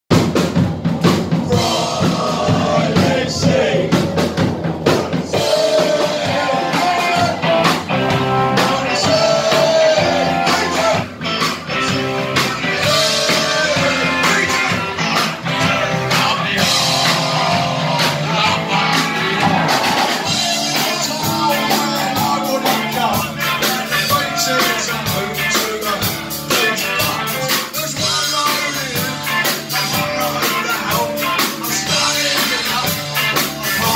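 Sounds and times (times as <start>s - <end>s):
bass guitar: 0.1s - 33.9s
drum kit: 0.1s - 33.9s
electric guitar: 0.2s - 33.9s
person singing: 1.4s - 4.2s, 4.8s - 33.9s.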